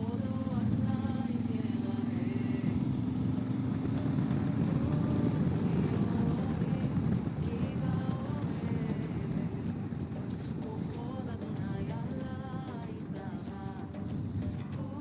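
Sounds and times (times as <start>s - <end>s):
low hum: 0.0s - 15.0s
vehicle engine rumble: 0.0s - 15.0s.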